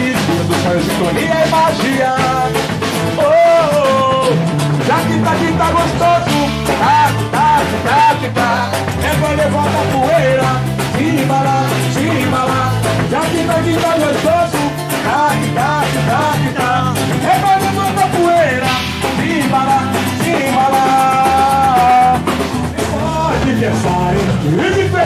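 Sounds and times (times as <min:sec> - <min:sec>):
bass: 0:00.0 - 0:25.0
drums: 0:00.0 - 0:25.0
guitar: 0:00.0 - 0:25.0.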